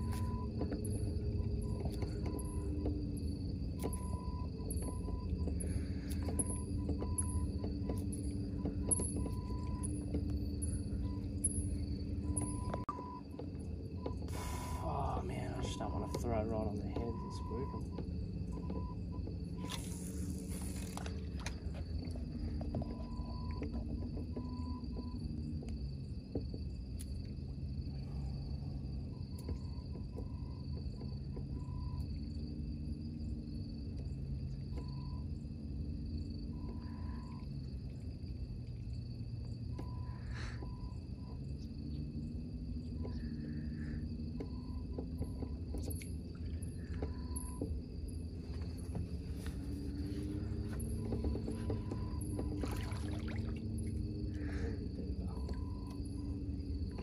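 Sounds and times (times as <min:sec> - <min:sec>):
low hum shifting in pitch: 0:00.0 - 0:57.0
night insects trilling: 0:00.0 - 0:57.0.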